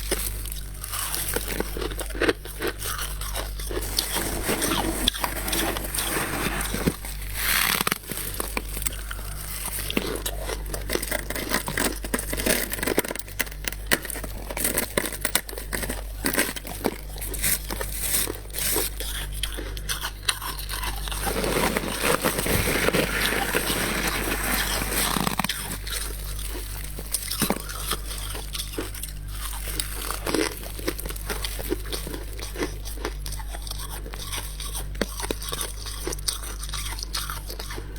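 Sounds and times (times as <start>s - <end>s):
frost crunching being chewed: 0.0s - 37.9s.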